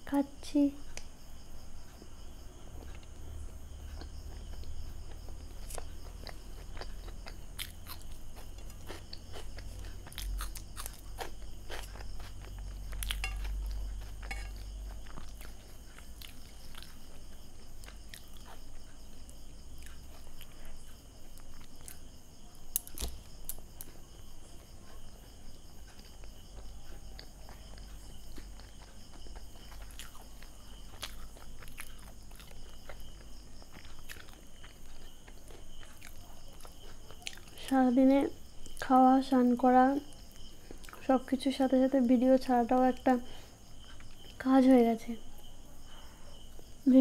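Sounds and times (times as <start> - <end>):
close-miked chewing: 1.8 - 41.4, 42.4 - 44.4.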